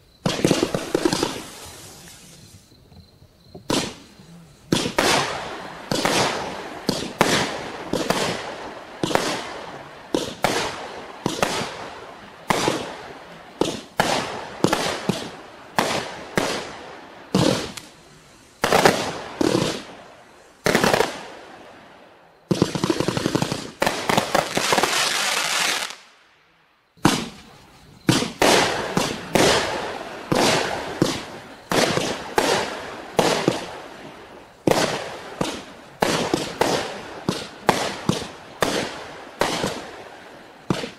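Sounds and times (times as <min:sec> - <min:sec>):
fireworks shots: 0:00.0 - 0:02.7, 0:03.6 - 0:26.2, 0:27.0 - 0:40.9
fireworks crackling: 0:00.0 - 0:02.8, 0:03.6 - 0:26.4, 0:27.0 - 0:40.9.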